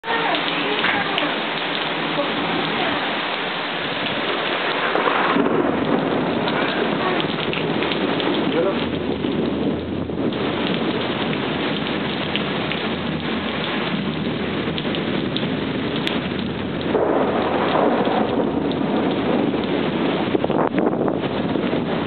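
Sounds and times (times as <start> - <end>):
heavy rain pouring: 0.0 - 22.0
thunder rumbling: 0.0 - 22.0.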